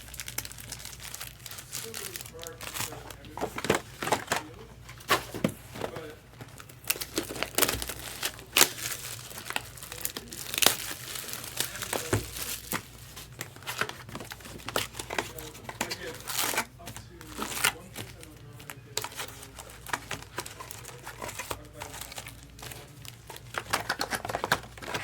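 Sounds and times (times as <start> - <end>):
foil wrappers crinkling and tearing: 0.0 - 25.0.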